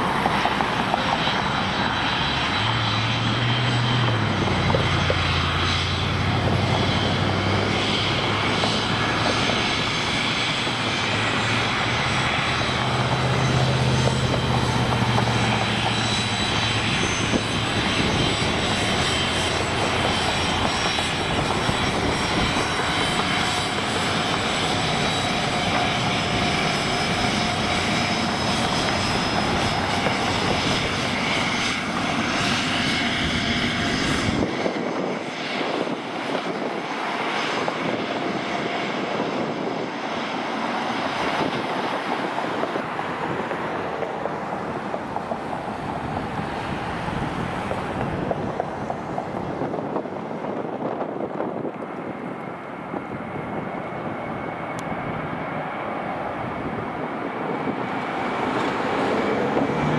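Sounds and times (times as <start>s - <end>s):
jet engines whining and rushing: 0.0s - 59.9s.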